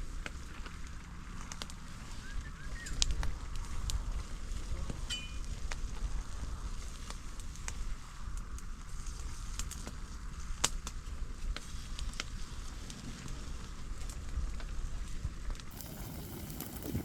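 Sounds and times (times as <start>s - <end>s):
cooking fire crackling: 0.0s - 17.0s.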